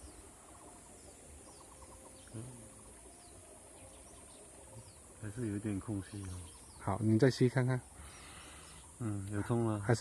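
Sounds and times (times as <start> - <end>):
faint bird chirps: 0.0 - 10.0
steady high hiss: 0.0 - 10.0.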